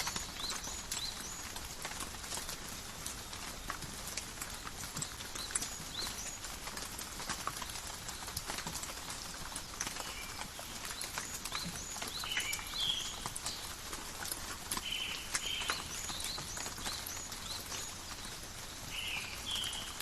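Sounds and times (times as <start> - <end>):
rain pattering on leaves: 0.0 - 20.0
small birds chirping: 0.0 - 20.0.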